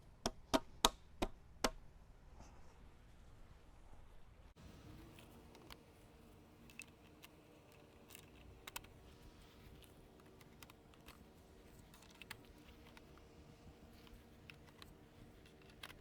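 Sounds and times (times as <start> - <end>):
low steady hum: 1.9 - 16.0.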